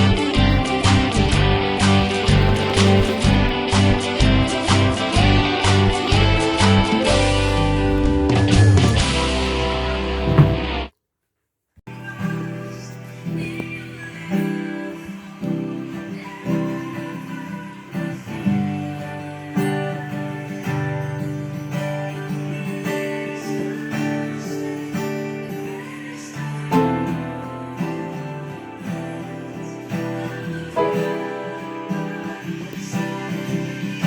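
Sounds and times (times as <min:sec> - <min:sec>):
acoustic guitar strumming chords: 0:00.0 - 0:10.9, 0:11.9 - 0:34.0.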